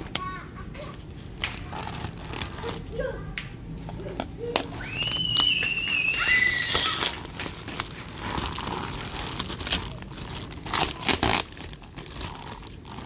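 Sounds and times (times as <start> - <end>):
plastic packaging crinkling: 0.0 - 3.1, 3.9 - 13.0.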